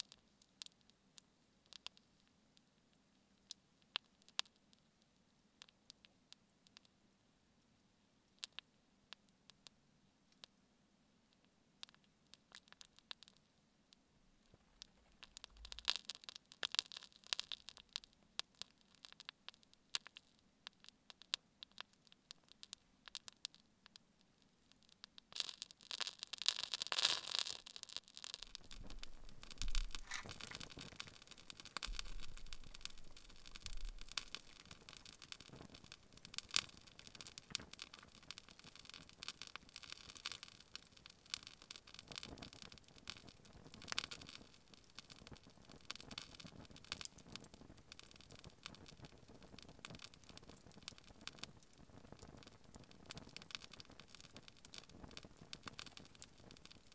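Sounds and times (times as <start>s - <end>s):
candle crackling and popping: 0.0s - 10.6s, 11.2s - 56.9s.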